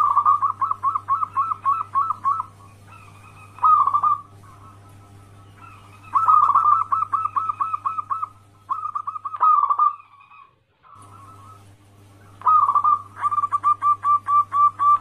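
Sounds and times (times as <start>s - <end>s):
dove cooing: 0.0s - 15.0s
faint low hum: 0.0s - 15.0s.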